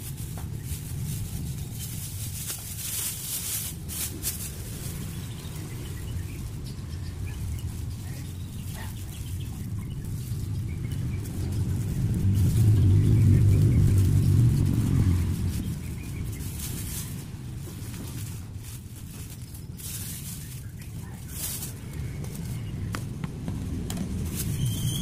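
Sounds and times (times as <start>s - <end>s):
plastic bags crinkling: 0.0s - 22.9s
steady low rumble: 0.0s - 25.0s.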